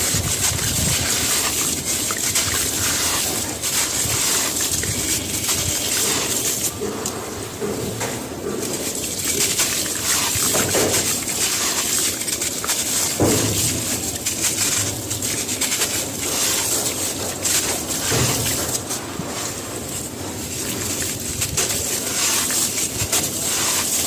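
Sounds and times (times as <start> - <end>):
cement crumbling into water: 0.0 - 6.8, 8.6 - 24.0.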